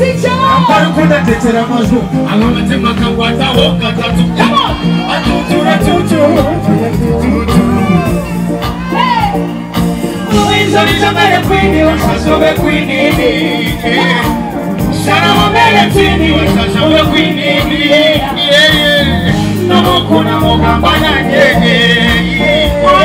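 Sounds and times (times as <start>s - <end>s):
person singing into a microphone: 0.0s - 8.3s, 10.2s - 23.0s
backing track with bass and beat: 0.0s - 23.0s.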